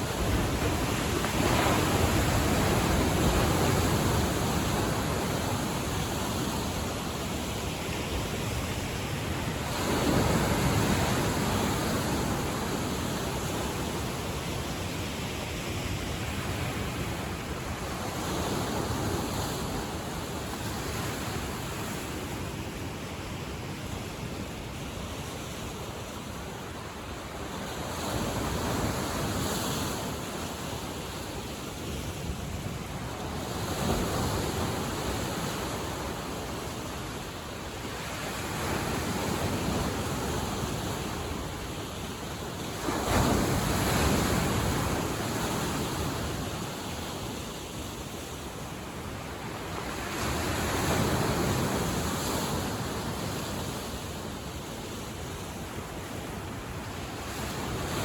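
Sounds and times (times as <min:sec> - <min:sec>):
waves breaking on shore: 0:00.0 - 0:58.0.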